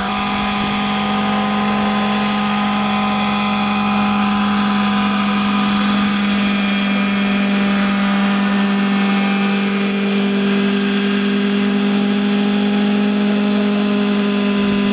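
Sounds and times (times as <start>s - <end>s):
model helicopter buzzing drone: 0.0s - 14.9s.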